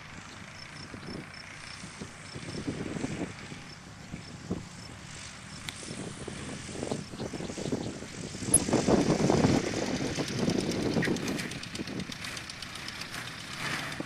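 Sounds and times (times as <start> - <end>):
propeller plane engine: 0.0 - 14.0.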